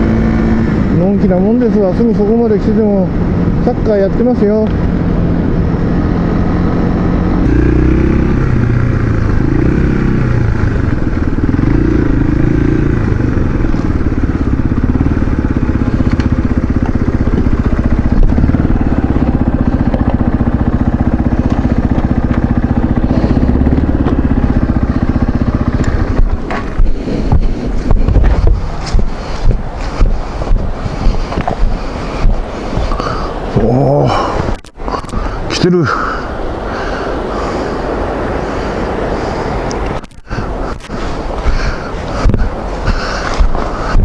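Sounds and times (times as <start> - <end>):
motorcycle engine running: 0.0 - 35.1, 40.0 - 44.0
wind buffeting microphone: 0.0 - 44.0.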